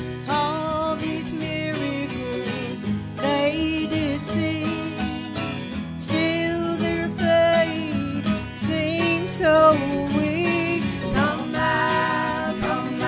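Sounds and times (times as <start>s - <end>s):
person singing with vibrato: 0.0s - 13.0s
strummed acoustic guitar: 0.0s - 13.0s.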